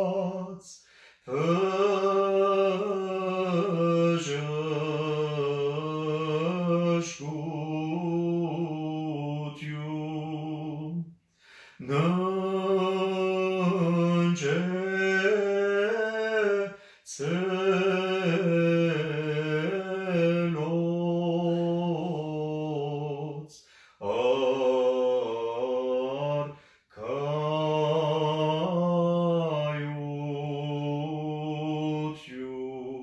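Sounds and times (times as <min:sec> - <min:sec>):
man chanting: 0:00.0 - 0:11.1, 0:11.8 - 0:33.0.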